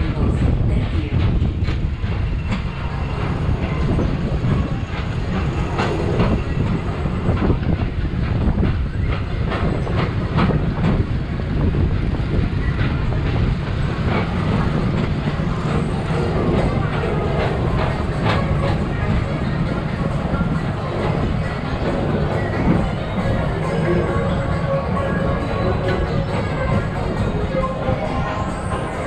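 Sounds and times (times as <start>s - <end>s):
ride car rumbling along track: 0.0s - 29.0s.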